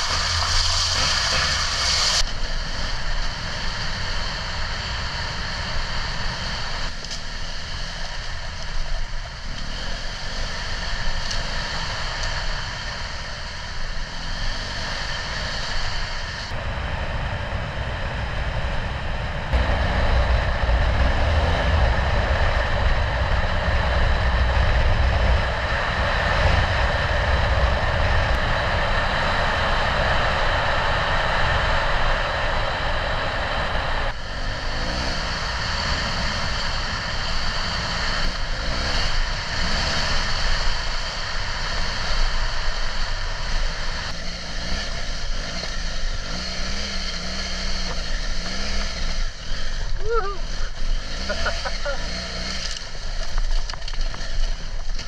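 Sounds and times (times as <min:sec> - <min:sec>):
wind noise: 0:00.0 - 0:47.4
motorcycle engine running: 0:00.0 - 0:55.0
road noise: 0:00.0 - 0:55.0.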